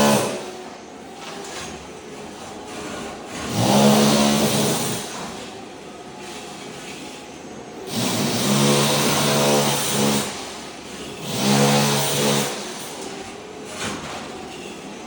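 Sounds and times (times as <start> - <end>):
floor scraper motor droning: 0.0 - 15.0.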